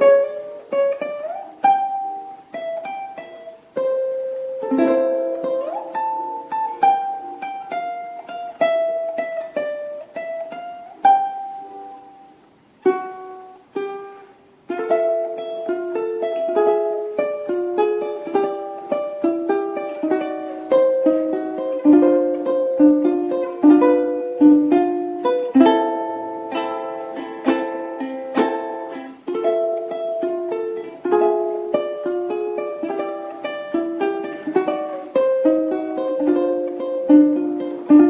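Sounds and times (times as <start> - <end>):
tenor ukulele melody over chords: 0.0 - 38.0.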